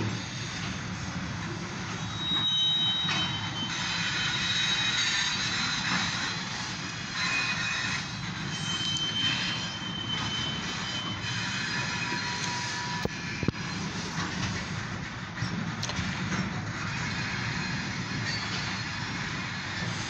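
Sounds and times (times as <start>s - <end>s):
freight train wheels rumbling: 0.0s - 20.0s
high wheel squeals: 0.1s - 14.4s, 16.8s - 20.0s.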